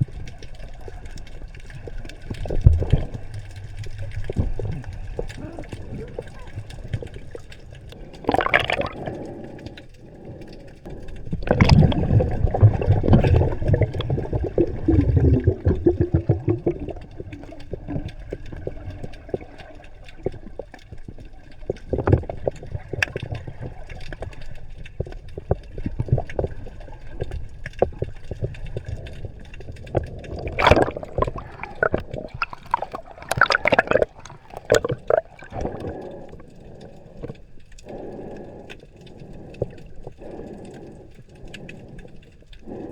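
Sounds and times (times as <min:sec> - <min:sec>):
underwater air bubbles gurgling: 0:00.0 - 0:42.9
underwater clicks: 0:00.0 - 0:42.9.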